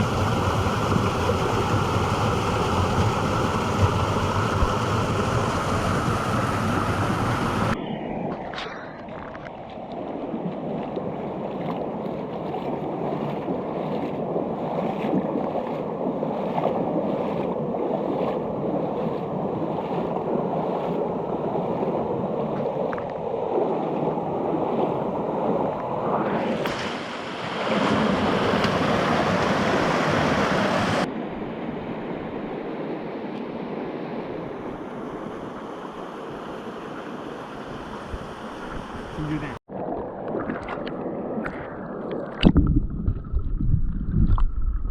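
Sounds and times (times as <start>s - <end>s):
stream water rushing and splashing: 0.0s - 32.3s, 33.2s - 42.6s.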